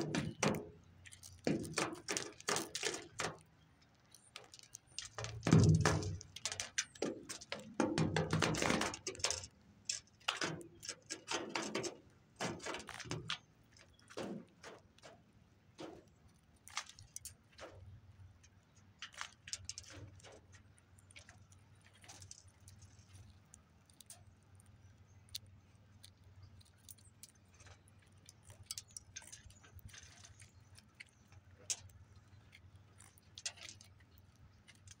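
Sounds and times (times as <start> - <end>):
birds pecking and cracking seed: 0.0 - 35.0.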